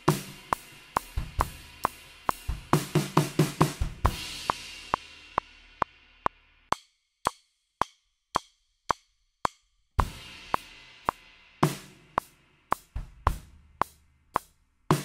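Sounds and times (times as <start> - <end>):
drum fill on toms and bass drum: 0.0 - 15.0.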